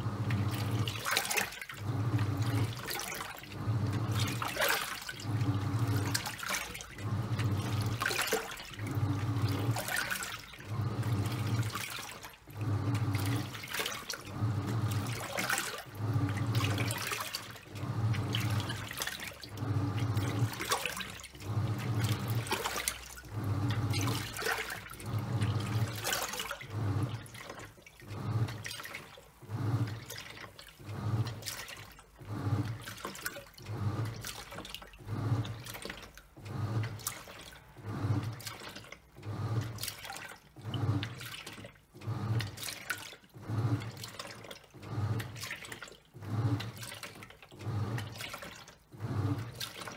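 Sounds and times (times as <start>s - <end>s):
washing machine motor humming: 0.0s - 49.9s
water sloshing and splashing: 0.0s - 49.9s.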